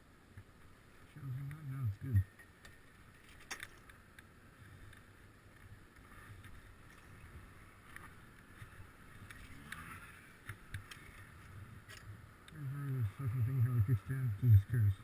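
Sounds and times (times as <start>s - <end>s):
faint low rumble with hiss: 0.0s - 15.0s.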